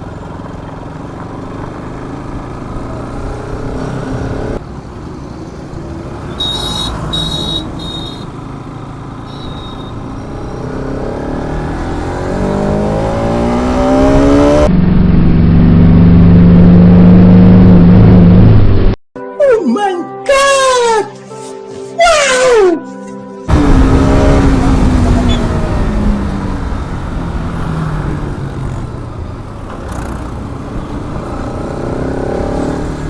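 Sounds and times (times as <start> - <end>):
motorcycle engine: 0.0 - 19.0, 23.5 - 33.0.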